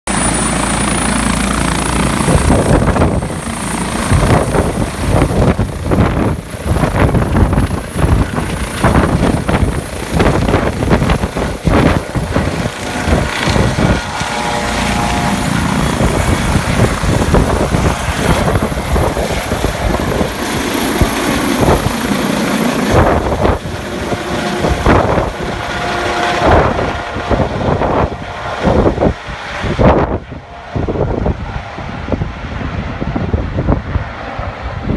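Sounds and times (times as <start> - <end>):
helicopter rotor beat: 0.1 - 34.9
helicopter turbine whine: 0.1 - 34.9
rotor wash buffeting microphone: 0.2 - 34.9.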